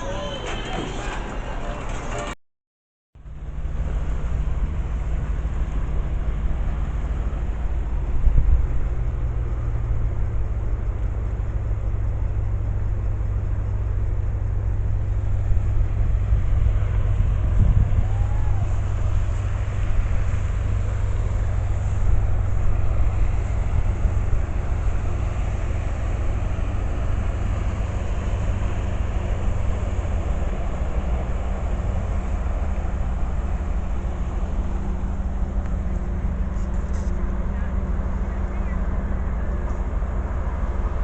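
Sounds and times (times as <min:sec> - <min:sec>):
engine droning: 0:00.0 - 0:02.4, 0:03.2 - 0:41.0.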